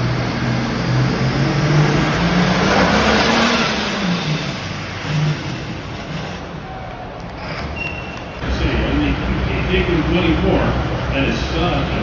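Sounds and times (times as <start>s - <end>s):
tractor diesel engine revving: 0.0s - 6.6s, 8.4s - 12.0s.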